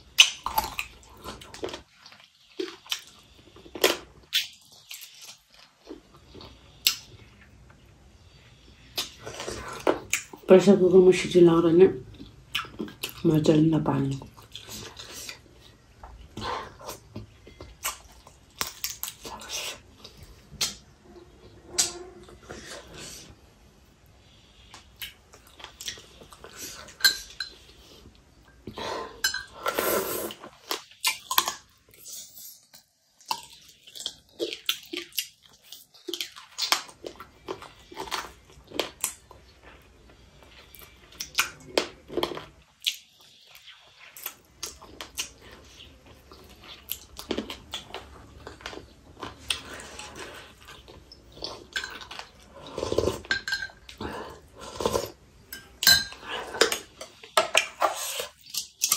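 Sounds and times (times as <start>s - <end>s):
chewing: 0.1s - 8.0s, 8.8s - 10.5s, 12.0s - 13.3s, 14.1s - 23.4s, 24.6s - 58.9s.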